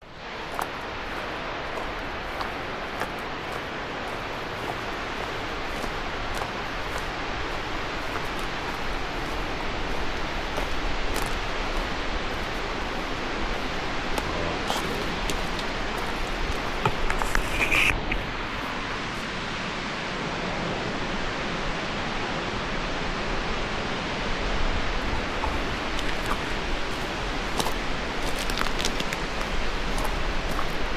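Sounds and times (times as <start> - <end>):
waterfall roaring: 0.2 - 30.9.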